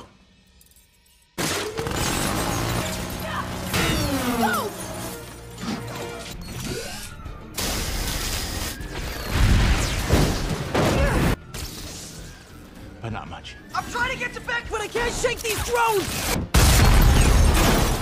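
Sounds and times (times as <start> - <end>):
film music: 0.0 - 18.0.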